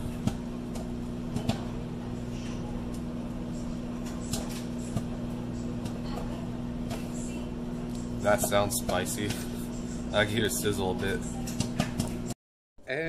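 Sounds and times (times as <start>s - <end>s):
popcorn popping: 0.0s - 12.3s
microwave oven humming: 0.0s - 13.0s.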